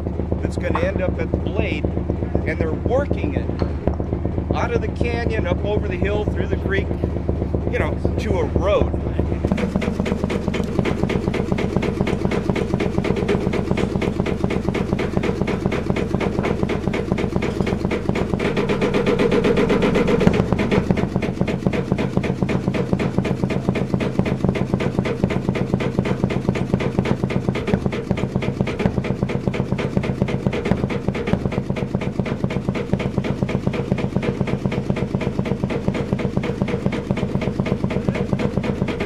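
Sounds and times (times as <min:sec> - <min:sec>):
sharp engine knock: 0:00.0 - 0:39.0
stationary engine running: 0:00.0 - 0:39.0.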